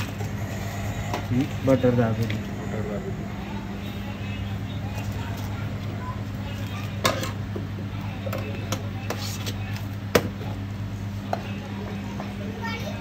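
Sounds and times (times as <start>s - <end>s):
faint background chatter: 0.0s - 13.0s
steady low hum: 0.0s - 13.0s.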